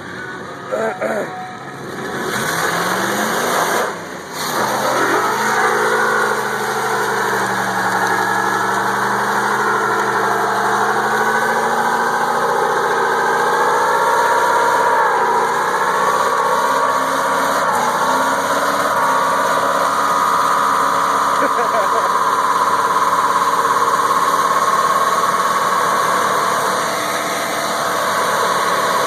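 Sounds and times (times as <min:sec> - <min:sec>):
pickup truck engine revving: 0:00.0 - 0:29.0.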